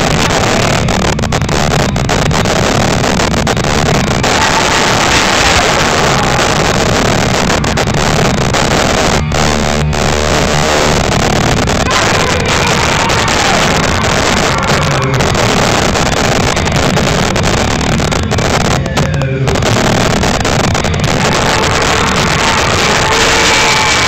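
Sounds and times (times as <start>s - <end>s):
distorted music: 0.0s - 24.0s.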